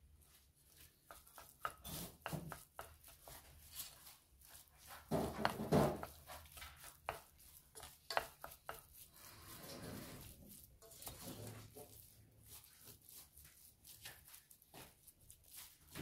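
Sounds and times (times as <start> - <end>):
wooden spoon scraping metal pan: 0.7 - 16.0.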